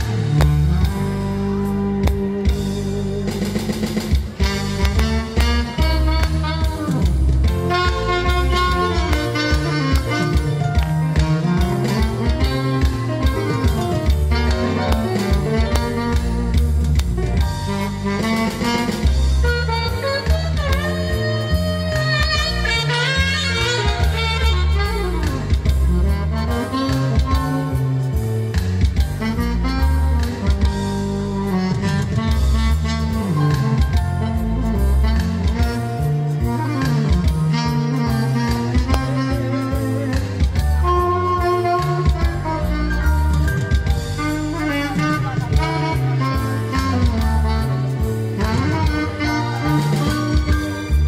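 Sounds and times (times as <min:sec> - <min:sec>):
drums and bass backing track: 0:00.0 - 0:51.0
saxophone melody: 0:00.0 - 0:51.0.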